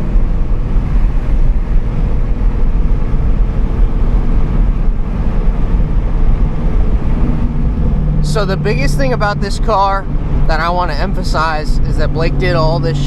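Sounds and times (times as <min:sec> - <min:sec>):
car engine cruising: 0:00.0 - 0:13.0
road and wind noise: 0:00.0 - 0:13.0.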